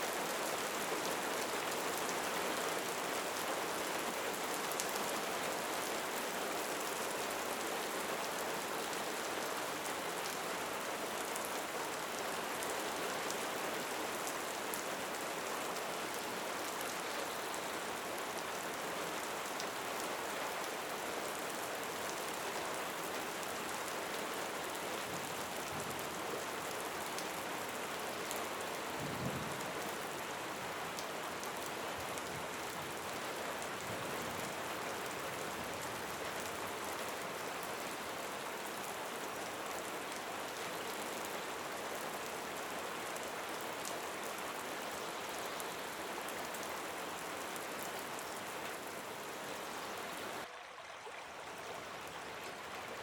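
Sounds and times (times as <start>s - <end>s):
rain falling: 0.0s - 50.5s, 51.2s - 53.0s.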